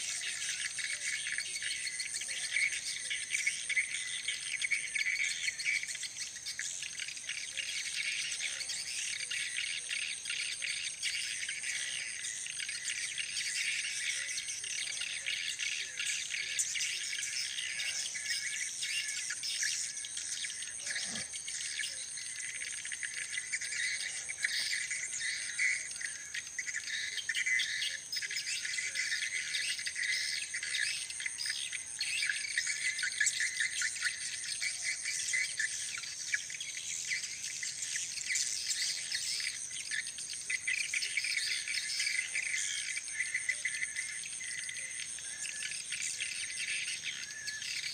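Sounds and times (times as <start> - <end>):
high-pitched insect trill: 0.0 - 47.9.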